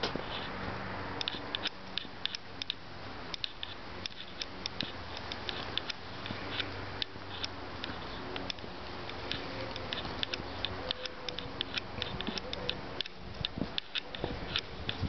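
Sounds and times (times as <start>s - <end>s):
sharp high-pitched ticks: 1.2s - 15.0s.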